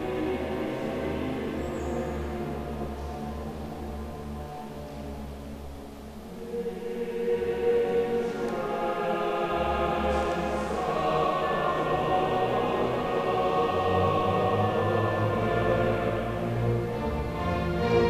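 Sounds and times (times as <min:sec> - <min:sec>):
slow choral music: 0:00.0 - 0:18.0.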